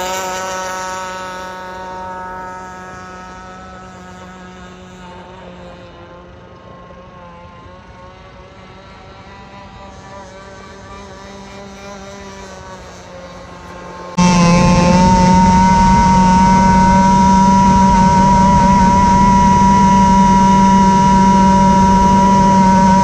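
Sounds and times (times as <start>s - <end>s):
model boat engine buzzing: 0.0s - 23.0s.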